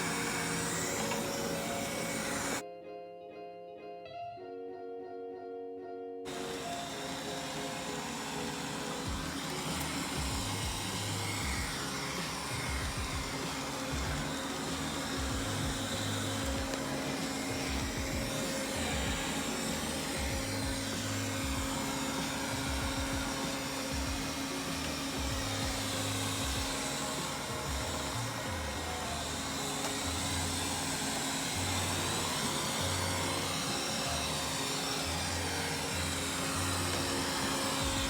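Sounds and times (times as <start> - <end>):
robot vacuum cleaner whirring: 0.0 - 2.6, 6.3 - 38.0.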